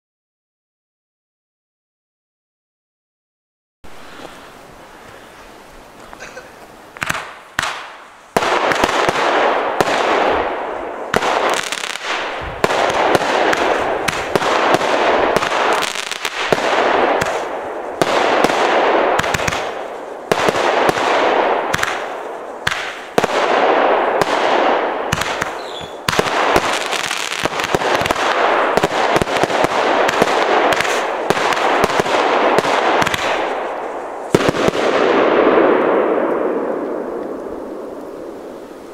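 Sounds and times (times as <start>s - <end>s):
fireworks banging and crackling: 3.9s - 38.9s.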